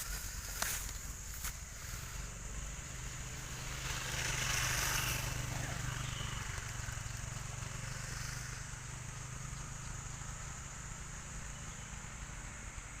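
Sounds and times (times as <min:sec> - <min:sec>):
high hiss: 0:00.0 - 0:12.3.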